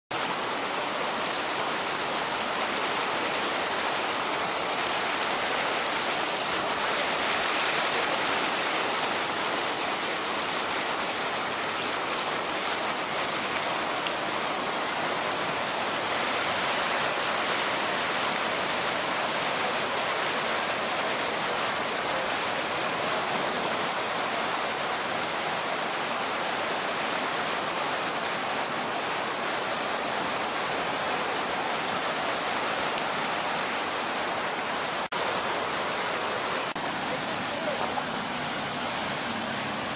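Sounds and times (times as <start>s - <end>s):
floodwater rushing: 0.1s - 39.9s.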